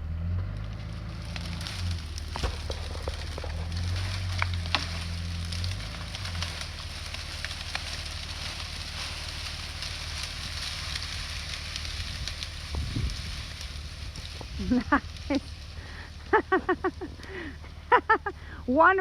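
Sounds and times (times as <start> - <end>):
canes and roots crackling: 0.0 - 19.0
truck engine hum: 0.0 - 19.0.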